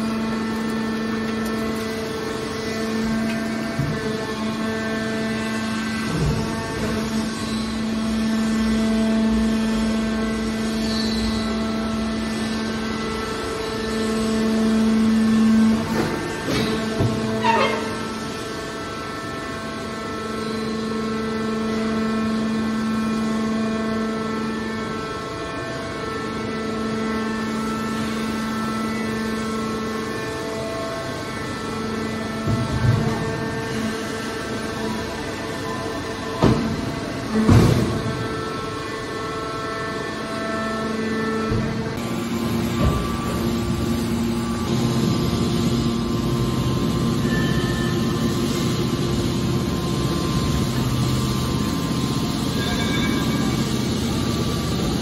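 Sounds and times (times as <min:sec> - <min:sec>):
hydraulic power unit humming: 0:00.0 - 0:55.0.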